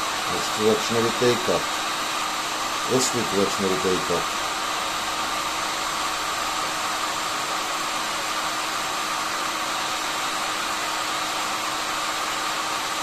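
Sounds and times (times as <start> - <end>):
hot air gun blowing: 0.0 - 13.0.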